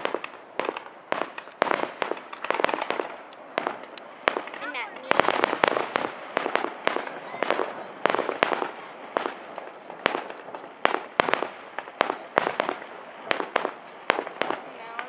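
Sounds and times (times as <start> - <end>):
fireworks bangs with echo: 0.0 - 15.0.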